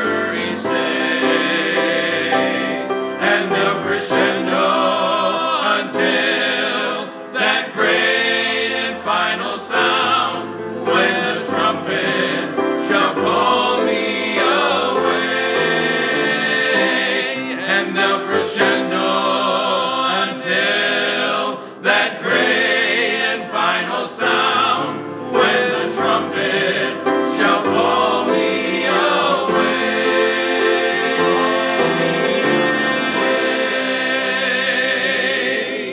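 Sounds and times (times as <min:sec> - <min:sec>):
gospel singing in harmony: 0:00.0 - 0:35.9.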